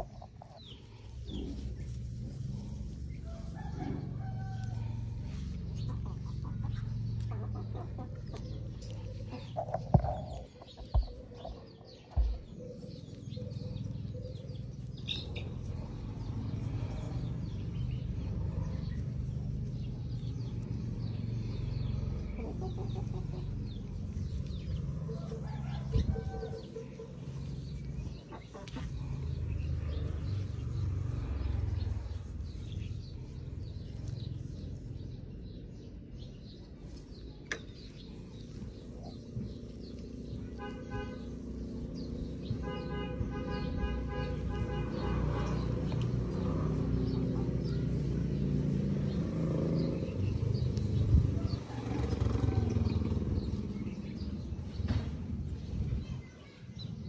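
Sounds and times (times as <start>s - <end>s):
steady low rumble: 0.0s - 49.2s
birds calling: 0.0s - 57.0s.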